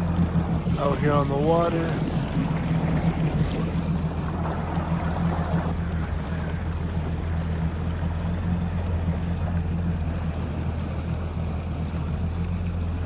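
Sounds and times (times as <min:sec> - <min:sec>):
jet ski engine drone: 0:00.0 - 0:13.0
water rushing: 0:00.0 - 0:13.0.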